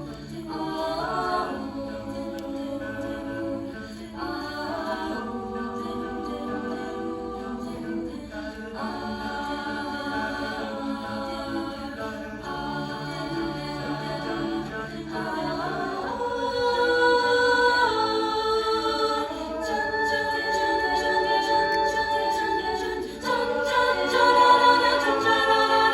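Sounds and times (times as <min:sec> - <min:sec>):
wordless singing with choir: 0:00.0 - 0:25.9.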